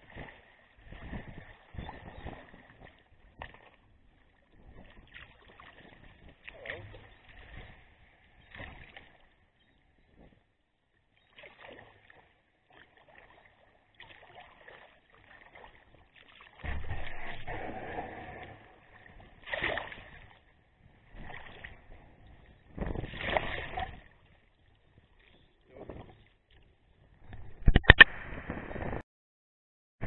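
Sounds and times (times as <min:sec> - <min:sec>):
paddle splashing in water: 0:00.0 - 0:10.3, 0:11.0 - 0:26.7
water noise: 0:00.0 - 0:29.0.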